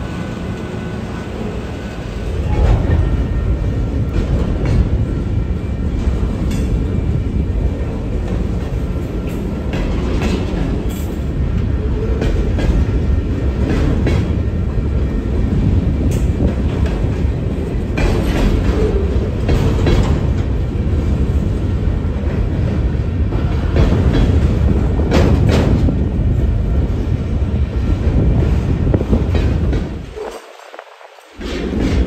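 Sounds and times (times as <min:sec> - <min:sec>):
train wheels rumbling: 0:00.0 - 0:32.0
clickety-clack over rail joints: 0:01.4 - 0:32.0.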